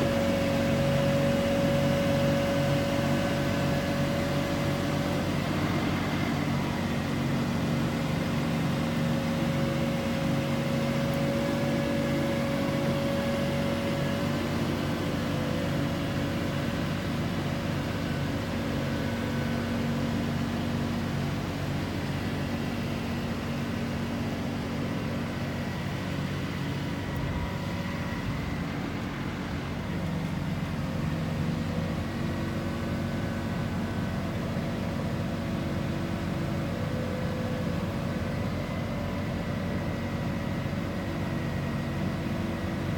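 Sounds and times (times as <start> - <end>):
heavy machinery engine running: 0.0 - 42.9
hydraulic whine: 0.0 - 42.9.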